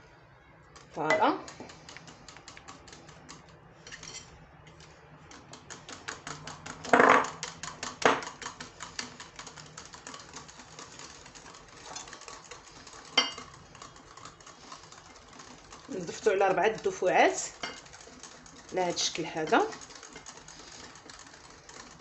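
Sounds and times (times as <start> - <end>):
whisk knocking on bowl: 0.8 - 2.8, 5.3 - 22.0
whisk beating in ceramic bowl: 0.8 - 22.0.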